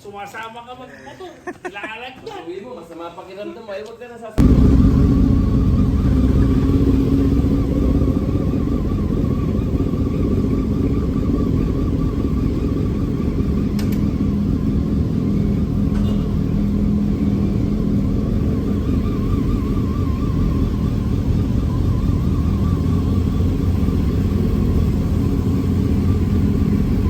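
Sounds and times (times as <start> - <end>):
motorcycle engine rumble: 4.4 - 27.0
road noise: 4.4 - 27.0.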